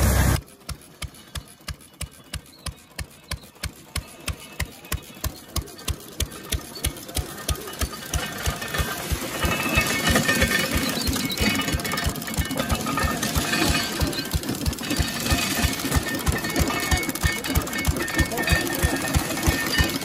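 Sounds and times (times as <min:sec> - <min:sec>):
rattle from belt-driven machine: 0:00.0 - 0:20.0
stationary gas engine chugging: 0:00.0 - 0:20.0.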